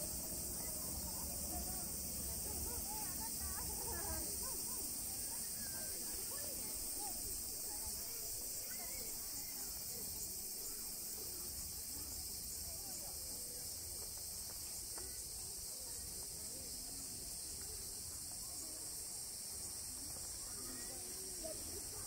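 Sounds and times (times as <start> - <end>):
faint distant voices: 0.0 - 22.0.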